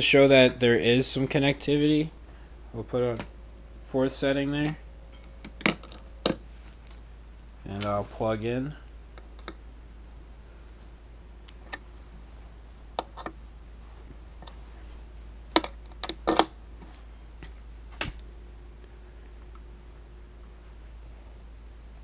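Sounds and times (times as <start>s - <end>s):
speaker hum: 0.0s - 22.0s.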